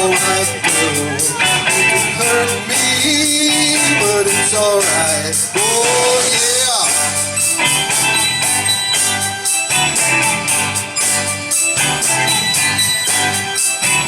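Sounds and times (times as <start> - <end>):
band playing rock and roll: 0.0 - 14.0
drums: 0.0 - 14.0
electric guitar: 0.0 - 14.0
gliding melodic line: 0.0 - 14.0.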